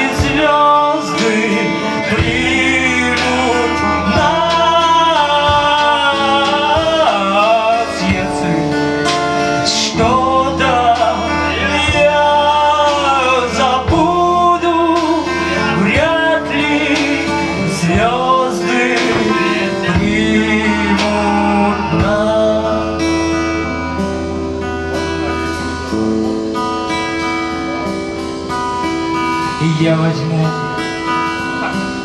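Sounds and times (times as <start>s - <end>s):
man singing: 0.0s - 26.0s, 28.8s - 32.0s
acoustic guitar: 0.0s - 32.0s
slow drum kit beat: 0.0s - 32.0s.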